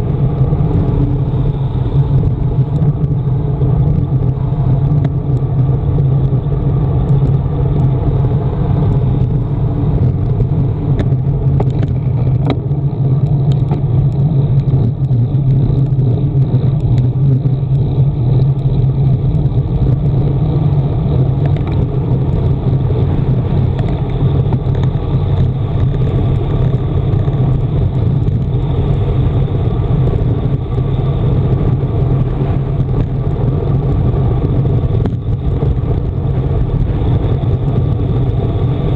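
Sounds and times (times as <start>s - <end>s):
tyres humming on asphalt: 0.0s - 38.9s
wind buffeting microphone: 0.0s - 38.9s.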